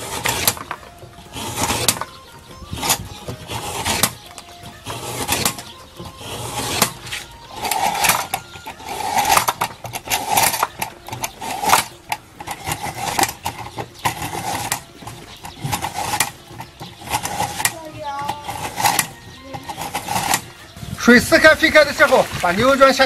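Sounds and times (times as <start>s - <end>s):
meat slicer blade rasping: 0.0s - 20.6s.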